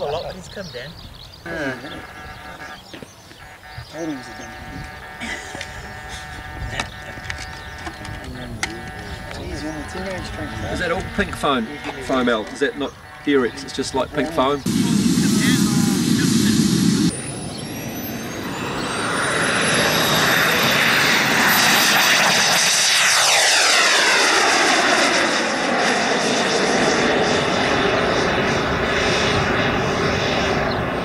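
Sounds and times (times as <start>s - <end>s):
model jet turbine whine: 3.8s - 31.0s.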